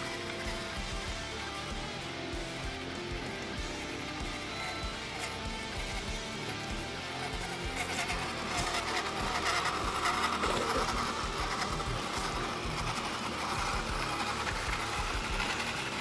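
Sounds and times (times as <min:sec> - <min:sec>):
rc truck electric motor whining: 0:00.0 - 0:16.0.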